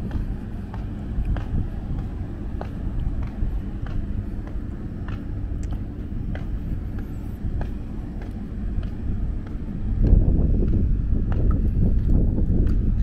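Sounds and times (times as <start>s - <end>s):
footsteps walking: 0.0s - 12.9s
low outdoor rumble: 0.0s - 13.0s.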